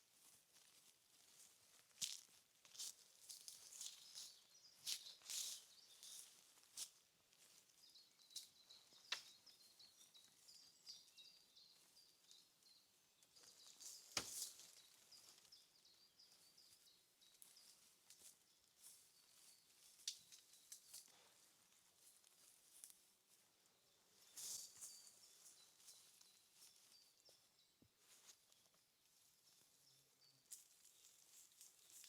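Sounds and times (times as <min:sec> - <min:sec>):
small bird chirping: 0:02.8 - 0:21.4, 0:22.0 - 0:32.0.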